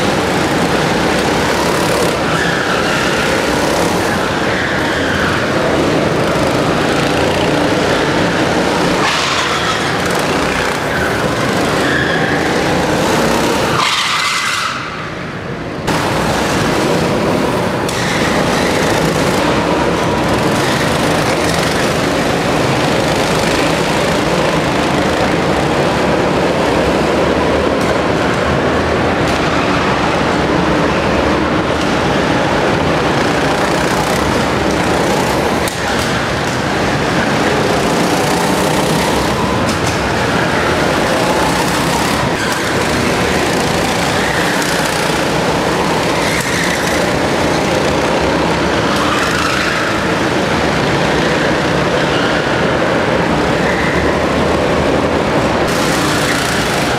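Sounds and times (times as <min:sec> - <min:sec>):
go-kart engines revving: 0:00.0 - 0:56.9.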